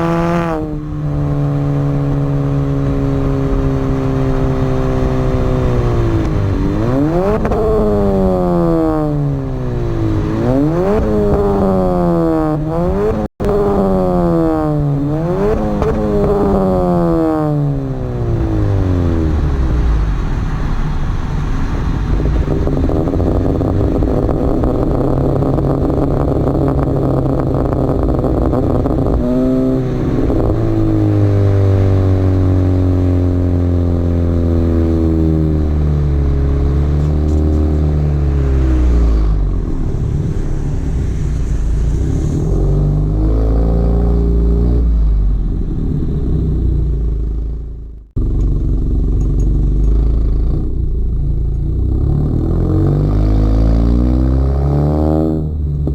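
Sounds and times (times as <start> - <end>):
car exhaust droning: 0.0 - 55.9.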